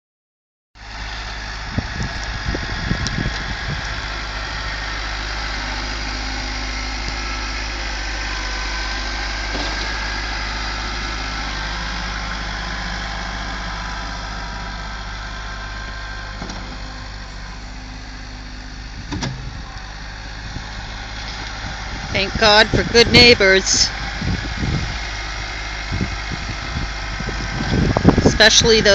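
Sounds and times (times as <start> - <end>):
tractor engine running: 0.8 - 28.9.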